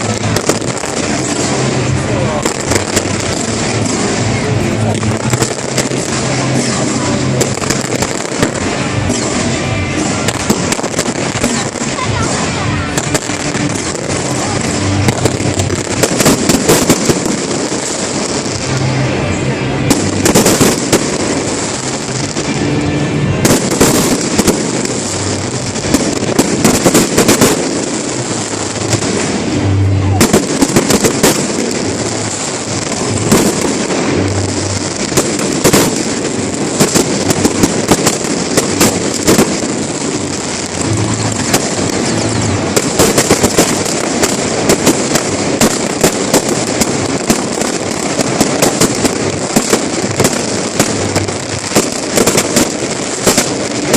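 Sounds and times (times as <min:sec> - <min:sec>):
fireworks bursting and crackling: 0:00.0 - 0:53.9
music playing: 0:00.0 - 0:53.9.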